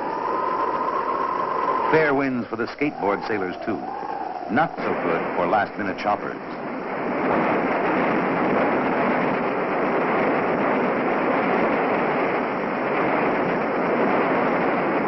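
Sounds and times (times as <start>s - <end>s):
strong wind rushing: 0.0s - 15.0s.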